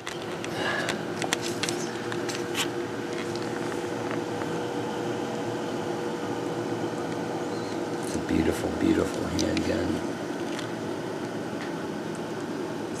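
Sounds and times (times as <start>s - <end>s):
fan humming with faint whine: 0.0s - 13.0s.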